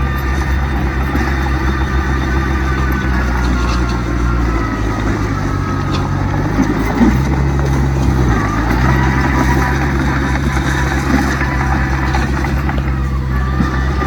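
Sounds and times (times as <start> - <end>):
heavy machinery diesel engine: 0.0 - 14.0
thin whine: 0.0 - 14.0.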